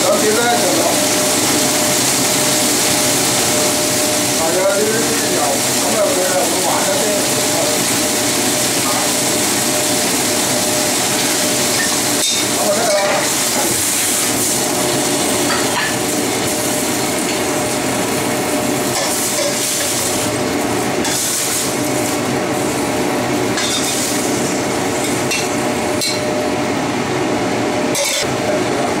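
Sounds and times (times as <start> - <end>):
greens sizzling in a wok: 0.0 - 26.2.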